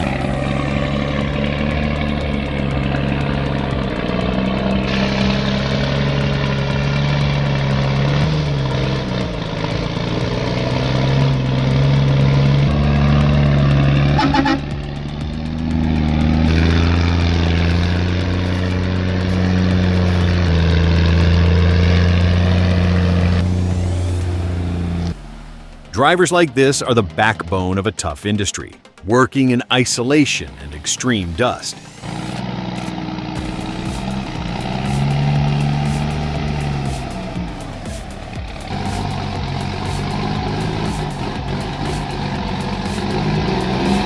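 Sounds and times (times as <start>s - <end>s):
truck engine running: 0.0s - 29.2s, 30.1s - 44.0s.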